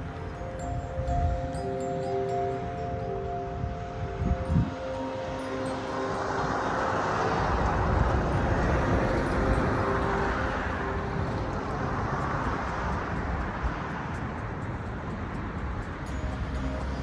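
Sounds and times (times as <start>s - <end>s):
passing vehicle rumbling: 0.0s - 17.0s.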